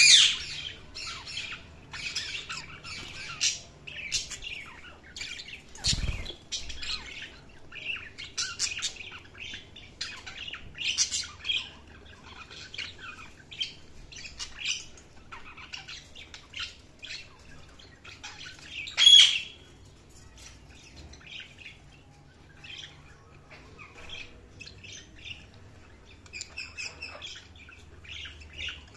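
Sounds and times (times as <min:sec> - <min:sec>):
budgerigars chirping: 0:00.0 - 0:19.6, 0:22.6 - 0:28.9.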